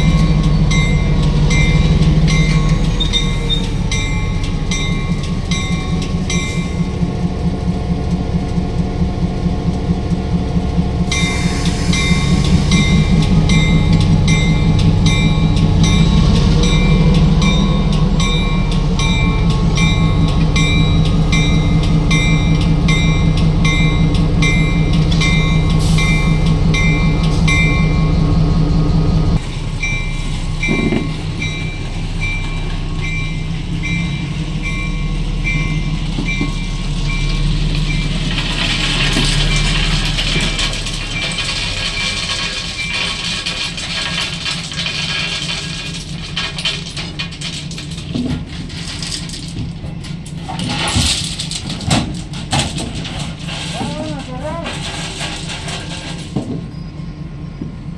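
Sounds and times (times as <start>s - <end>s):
locomotive bell ringing: 0.0s - 57.3s
diesel locomotive droning: 0.0s - 57.9s.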